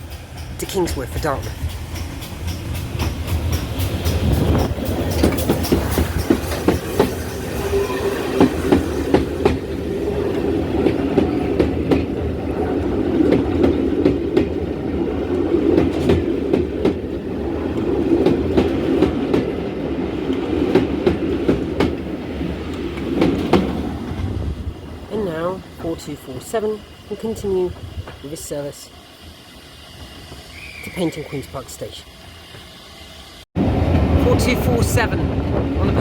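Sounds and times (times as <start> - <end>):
train wheels clicking over rail joints: 0.0 - 30.9
train rumble: 0.0 - 36.0.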